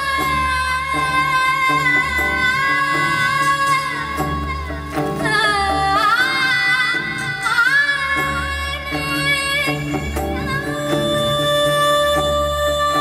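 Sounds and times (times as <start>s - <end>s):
band with drums and electric guitar: 0.0s - 13.0s
woman singing into a microphone: 0.0s - 13.0s.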